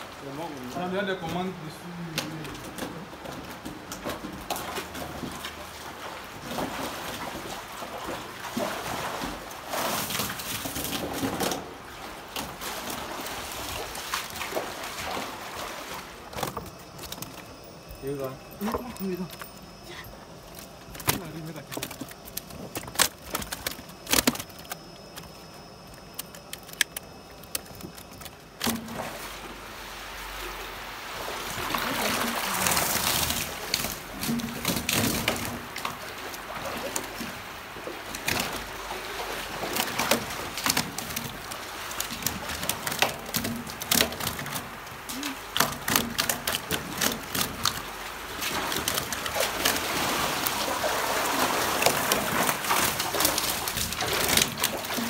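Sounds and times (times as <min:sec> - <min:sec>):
shallow water splashing: 0:04.5 - 0:17.6, 0:18.2 - 0:55.0.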